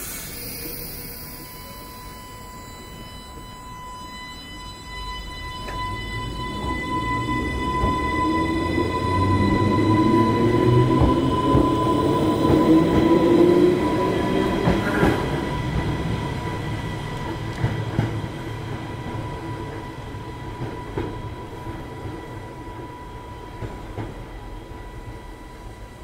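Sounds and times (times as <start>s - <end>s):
electric train pulling away: 0.0s - 26.0s.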